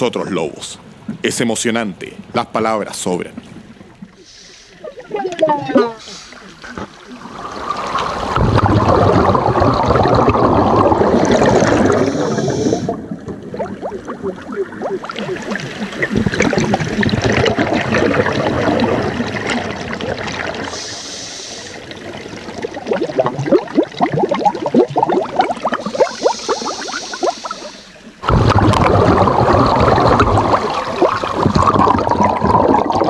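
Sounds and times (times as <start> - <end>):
water splashing and bubbling: 3.1 - 33.0.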